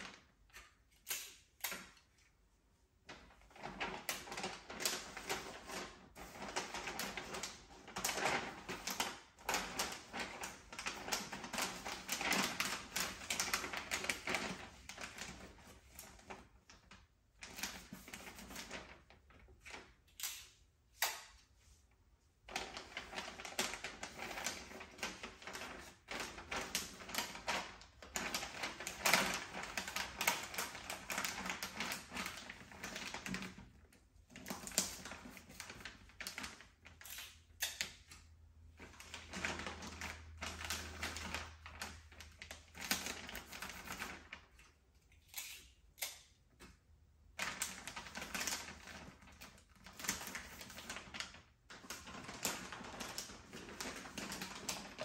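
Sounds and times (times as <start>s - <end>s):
wrapping paper crinkling: 3.1s - 20.6s, 22.4s - 44.8s, 47.3s - 55.0s.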